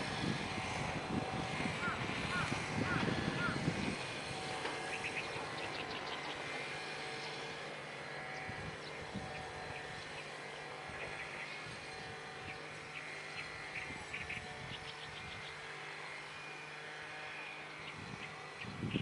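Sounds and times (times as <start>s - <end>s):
distant vehicle hum: 0.0s - 19.0s.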